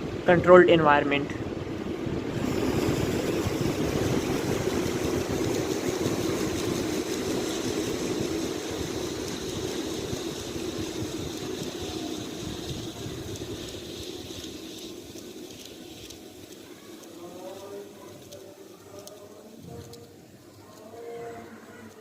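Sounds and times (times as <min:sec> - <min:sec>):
ceiling fan whirring: 0:00.0 - 0:22.0.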